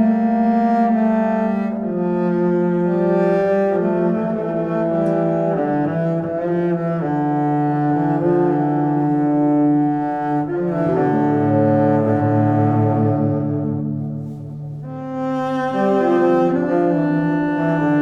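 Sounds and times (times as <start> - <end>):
slow low bowed strings melody: 0.0 - 18.0.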